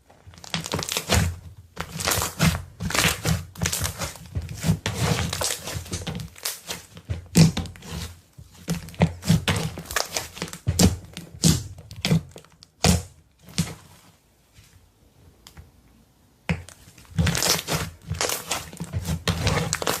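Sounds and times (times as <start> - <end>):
slime crackling and squelching: 0.2 - 14.0, 16.5 - 20.0.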